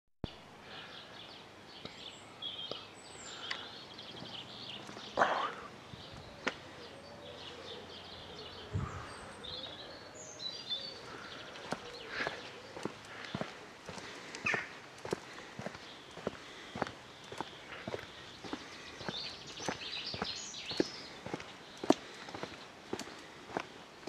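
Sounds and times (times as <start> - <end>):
small birds chirping and singing: 0.3 - 24.0.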